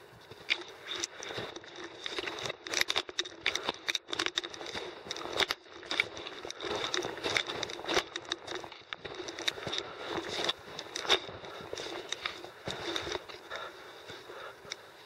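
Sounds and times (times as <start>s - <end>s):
footsteps crunching on loose ground: 0.0s - 15.0s
rustling: 0.0s - 15.0s.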